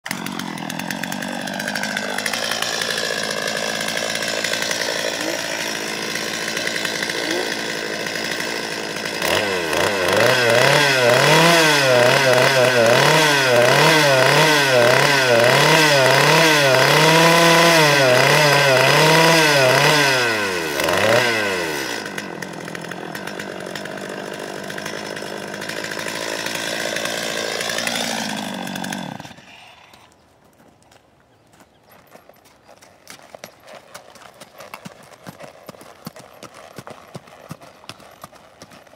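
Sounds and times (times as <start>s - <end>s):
chainsaw engine idling and revving: 0.0s - 30.2s, 33.0s - 38.9s.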